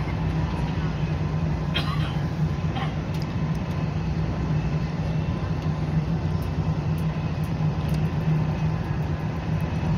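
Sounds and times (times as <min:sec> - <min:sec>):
train rumbling at speed: 0:00.0 - 0:09.9.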